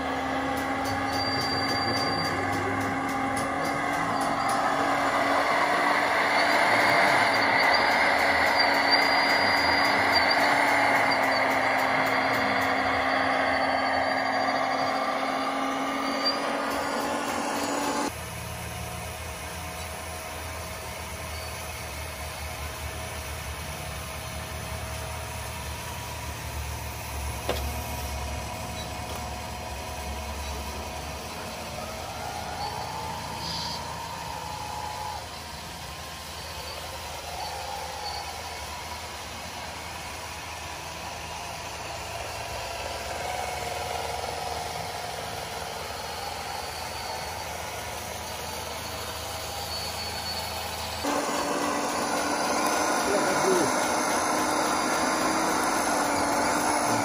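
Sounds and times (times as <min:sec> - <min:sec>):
hydraulic pump and motors whirring: 0:00.0 - 0:57.0
toy tractor motor rumble and whine: 0:00.0 - 0:57.0.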